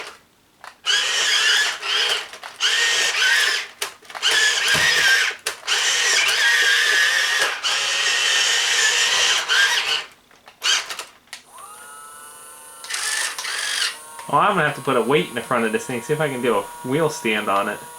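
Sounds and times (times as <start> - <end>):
electric motors whining: 0.9 - 17.9.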